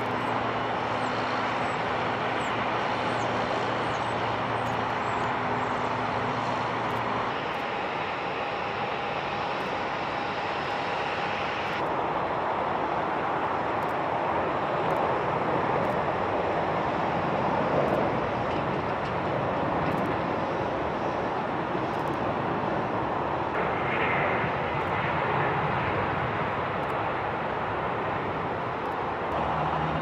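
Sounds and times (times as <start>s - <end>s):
faint steady whine: 0.0s - 30.0s
jet engine rushing: 0.0s - 30.0s.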